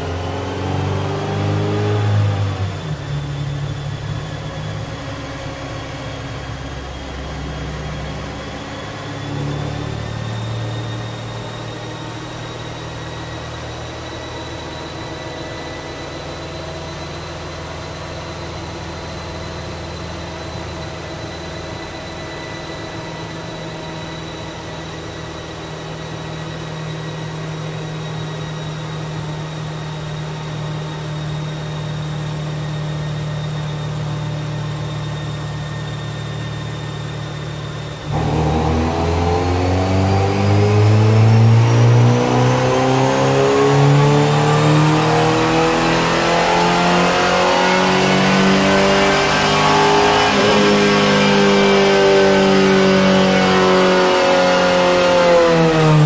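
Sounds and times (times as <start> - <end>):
car engine on dyno: 0.0 - 56.0
faint high whine: 2.2 - 56.0.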